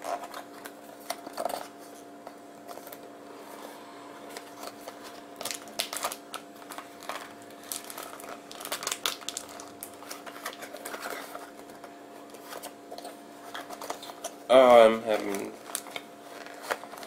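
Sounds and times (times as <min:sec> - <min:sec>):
cardboard and paper crinkling: 0:00.0 - 0:03.0, 0:04.3 - 0:17.0
faint steady hum: 0:00.0 - 0:17.0.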